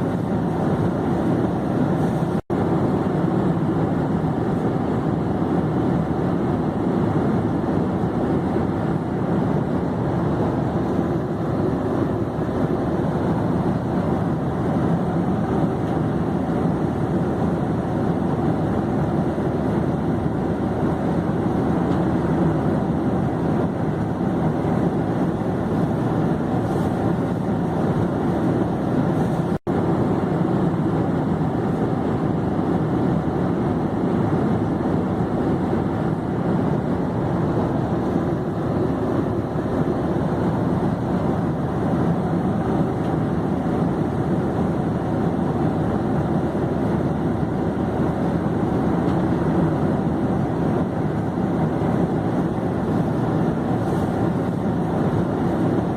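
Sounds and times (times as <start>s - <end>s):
airplane engines and airflow drone: 0.0s - 55.9s.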